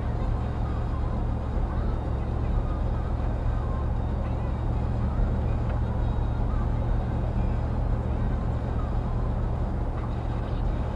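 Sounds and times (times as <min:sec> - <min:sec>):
car engine and tyre drone: 0:00.0 - 0:10.9
road noise: 0:00.0 - 0:10.9.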